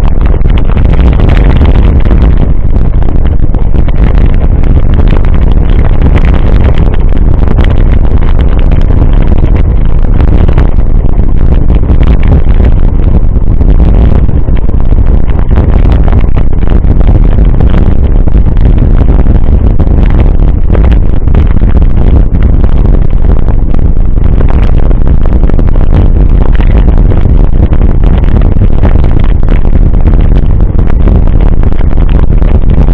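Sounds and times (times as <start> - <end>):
wind rumble on microphone: 0.0 - 32.9.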